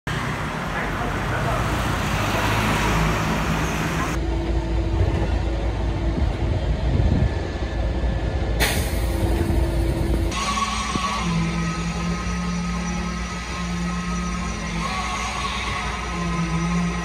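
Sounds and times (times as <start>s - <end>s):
street traffic: 0.0s - 17.0s
bus driving past: 0.1s - 17.0s
diesel truck engine rumbling: 0.1s - 17.0s.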